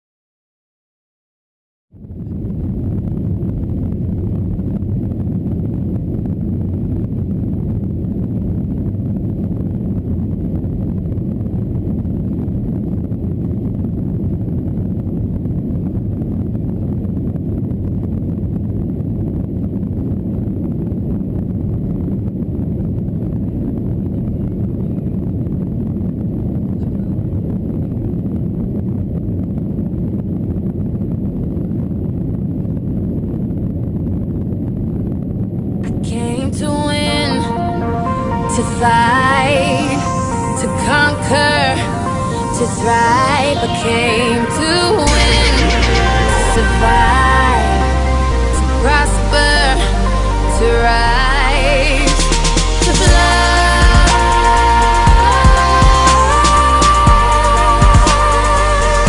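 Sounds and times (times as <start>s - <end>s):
airliner engines rumbling: 2.0s - 59.0s.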